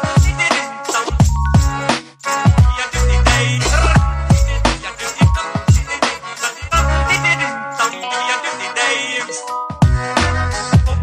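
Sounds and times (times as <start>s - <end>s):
music with heavy bass beat: 0.0s - 7.9s, 9.8s - 11.0s.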